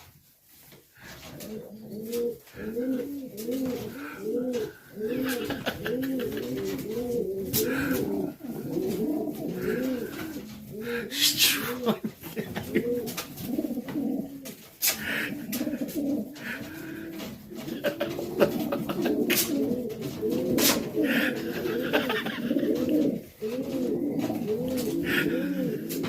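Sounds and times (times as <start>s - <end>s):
pigeons cooing: 1.0s - 26.0s.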